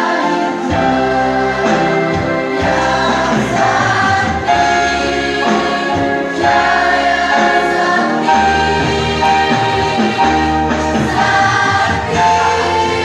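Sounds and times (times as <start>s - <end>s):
girls choir singing: 0.0s - 13.0s.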